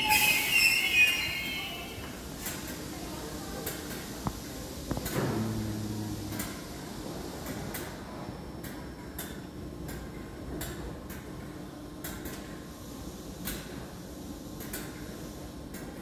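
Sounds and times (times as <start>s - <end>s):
electrical hum with whine: 0.0s - 16.0s.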